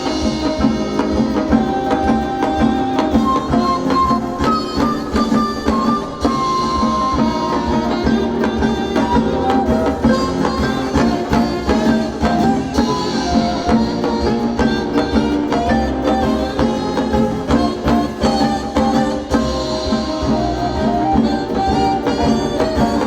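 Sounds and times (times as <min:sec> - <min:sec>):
drums and percussion: 0:00.0 - 0:23.0
melody of held notes: 0:00.0 - 0:23.0.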